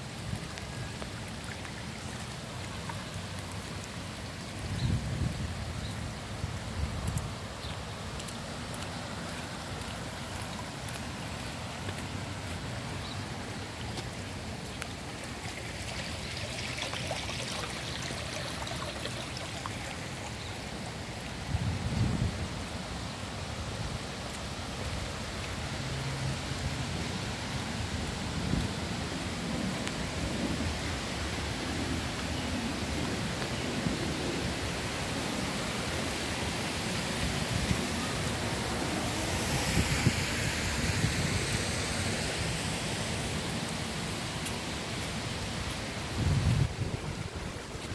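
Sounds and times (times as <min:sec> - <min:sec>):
rain on asphalt: 0:00.0 - 0:47.9.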